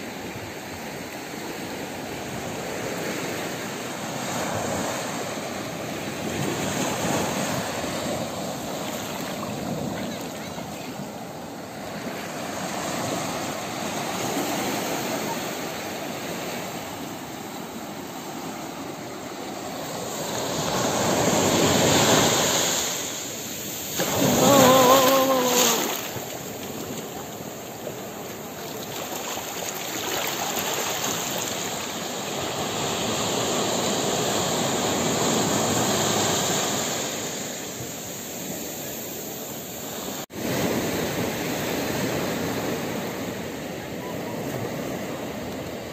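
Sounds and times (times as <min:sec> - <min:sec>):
surf washing over sand: 0:00.0 - 0:45.9.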